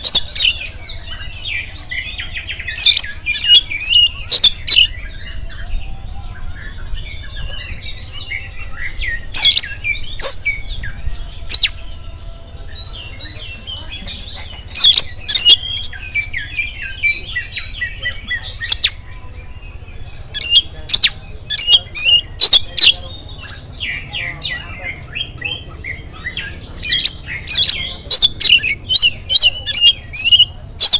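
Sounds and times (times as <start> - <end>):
magpie-robin singing: 0.0 - 30.9.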